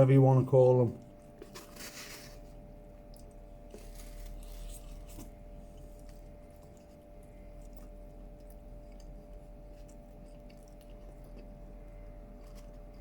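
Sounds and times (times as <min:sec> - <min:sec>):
faint steady hum: 0:00.0 - 0:13.0
person chewing crispy food: 0:01.0 - 0:13.0.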